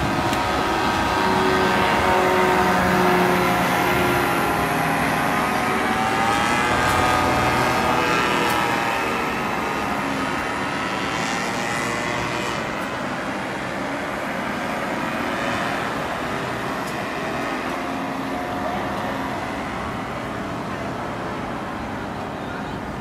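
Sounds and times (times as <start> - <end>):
powered paraglider engines droning: 0.0 - 23.0.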